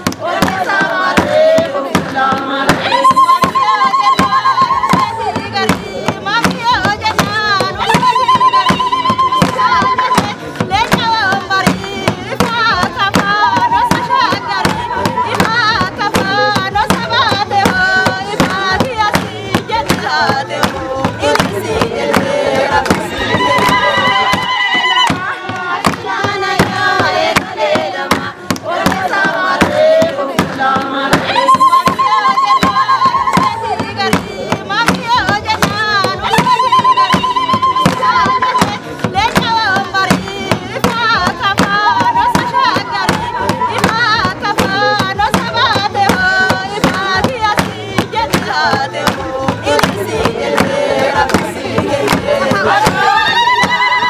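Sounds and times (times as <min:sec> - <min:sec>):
hand-clapping: 0:00.0 - 0:54.0
sharp struck beat: 0:00.0 - 0:54.0
women singing together: 0:00.0 - 0:54.0.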